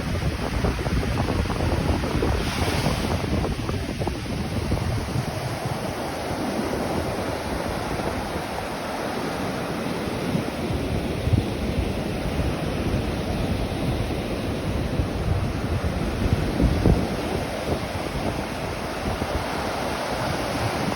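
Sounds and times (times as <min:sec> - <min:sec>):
ocean surf washing: 0:00.0 - 0:20.9
wind rumble on microphone: 0:00.0 - 0:20.9.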